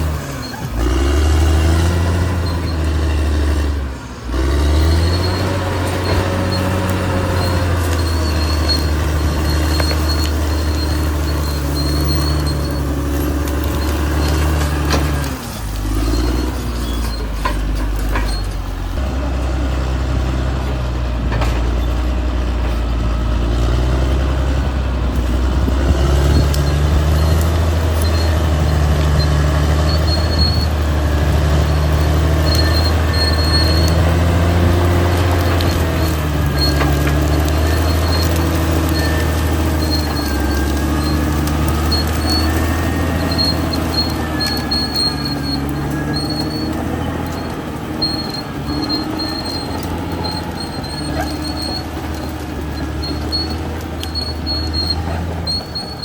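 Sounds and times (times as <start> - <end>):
short high squeaks: 0.0 - 19.0, 20.5 - 56.0
bulldozer diesel engine: 0.0 - 56.0.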